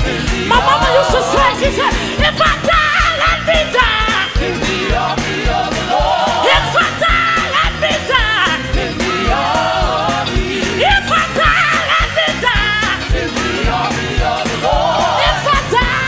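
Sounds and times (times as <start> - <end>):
backing vocalists singing: 0.0 - 16.0
band with fast drum beat: 0.0 - 16.0
lead singer singing: 0.0 - 16.0.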